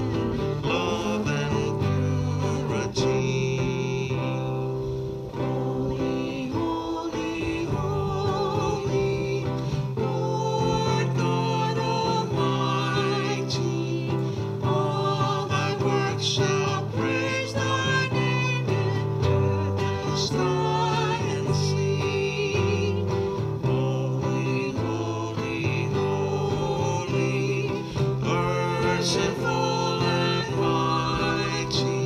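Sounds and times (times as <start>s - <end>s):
acoustic guitar music: 0.0s - 32.0s.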